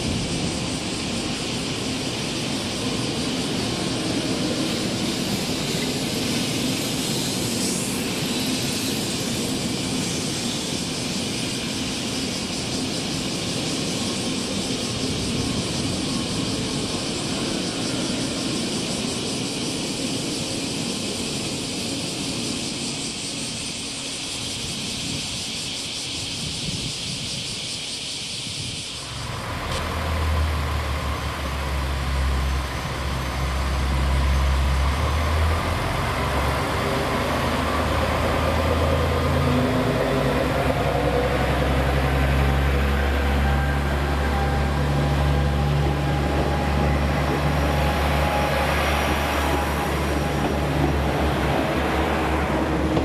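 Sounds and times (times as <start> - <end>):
diesel railcar engine rumbling: 0.0 - 53.0
train rushing past: 0.0 - 53.0.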